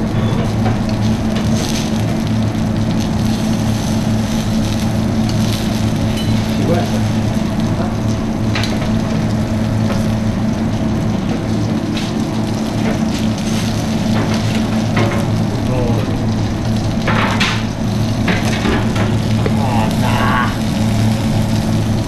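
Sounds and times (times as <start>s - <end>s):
onions sizzling on griddle: 0.0s - 22.0s
steady low hum: 0.0s - 22.0s.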